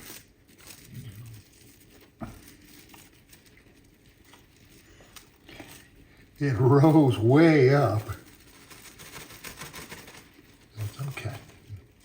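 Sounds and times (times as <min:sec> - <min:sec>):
faint rustling of cover: 0:00.0 - 0:12.0.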